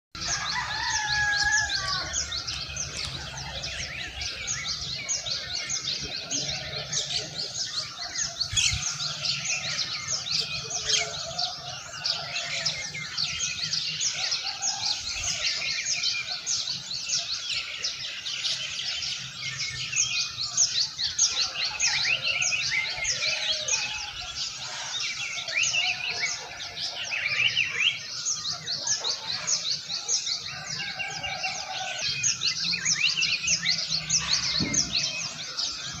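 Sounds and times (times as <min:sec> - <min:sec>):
small birds chirping: 0:00.1 - 0:36.0.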